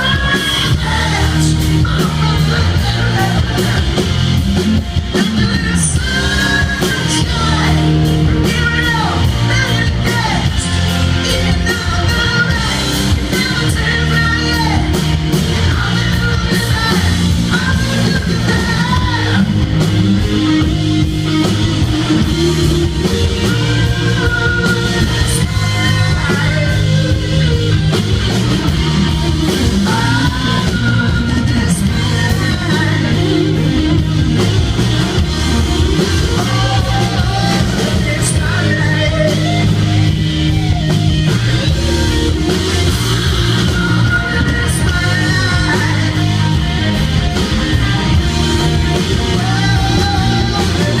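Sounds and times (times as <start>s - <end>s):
bass guitar: 0.0s - 51.0s
drum kit: 0.0s - 51.0s
electric guitars: 0.0s - 51.0s.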